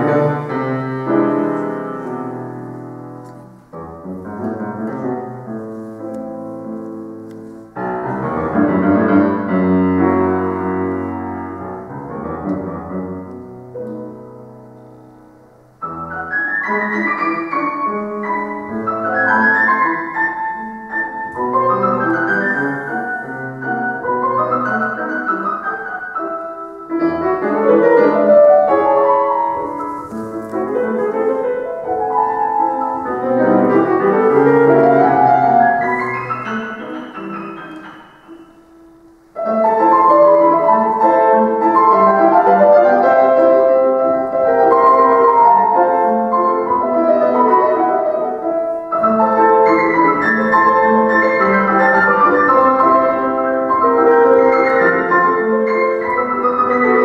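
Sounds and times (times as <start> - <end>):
classical solo piano: 0.0 - 57.0.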